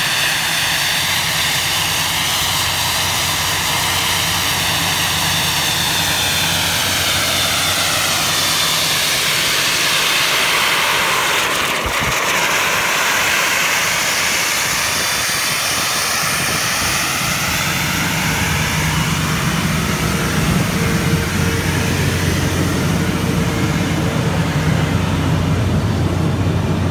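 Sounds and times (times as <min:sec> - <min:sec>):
air compressor roaring: 0:00.0 - 0:26.9
low engine hum: 0:00.0 - 0:26.9.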